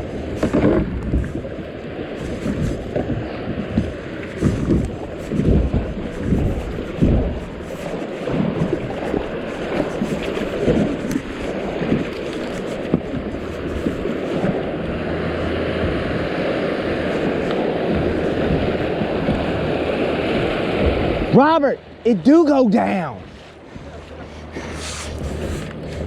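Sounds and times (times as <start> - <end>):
wind buffeting microphone: 0.0 - 22.1, 23.2 - 26.0
river water rushing: 0.0 - 26.0.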